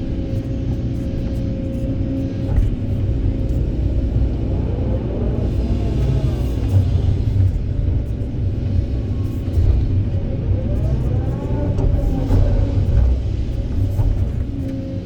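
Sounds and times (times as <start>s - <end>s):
hydraulics whining: 2.2s - 15.0s.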